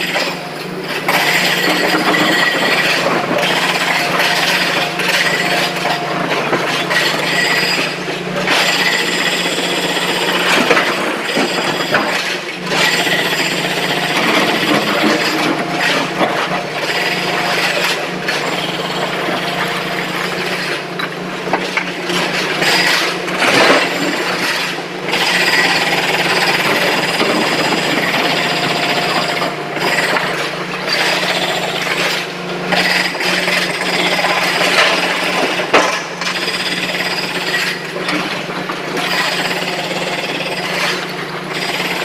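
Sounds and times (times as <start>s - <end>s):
excavator engine hum: 0.0s - 42.0s.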